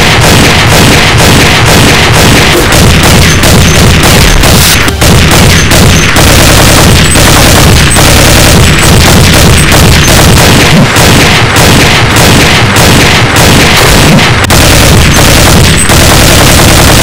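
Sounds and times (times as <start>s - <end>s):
booming hits and gunfire effects: 0.0s - 17.0s
loud background music: 0.0s - 17.0s.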